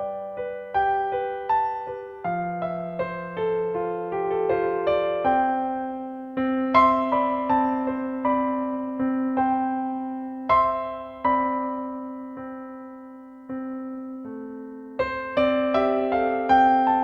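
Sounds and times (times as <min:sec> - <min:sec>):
electric piano melody: 0:00.0 - 0:17.0.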